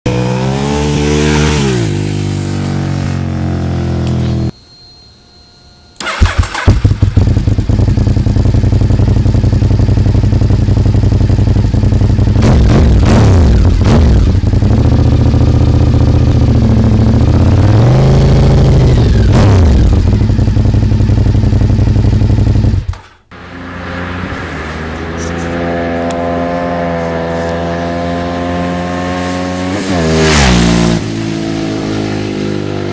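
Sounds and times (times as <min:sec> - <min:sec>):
motorcycle passing: 0:00.1 - 0:04.5, 0:06.0 - 0:32.9
motorcycle engine revving: 0:00.1 - 0:04.6, 0:06.0 - 0:32.9.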